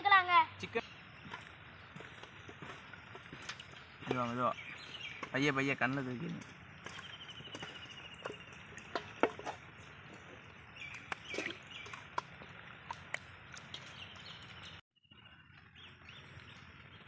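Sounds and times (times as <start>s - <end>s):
wet squelches of mixing meat: 1.1s - 14.8s.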